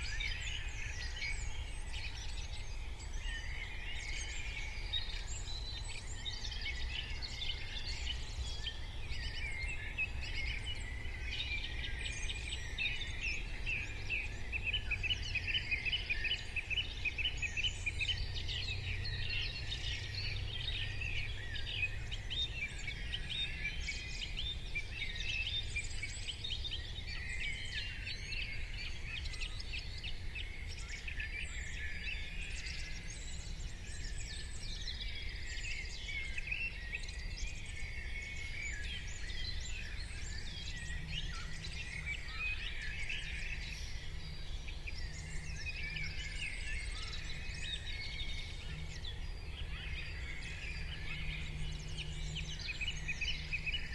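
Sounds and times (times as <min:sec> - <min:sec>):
birds chirping and trilling: 0:00.0 - 0:53.9.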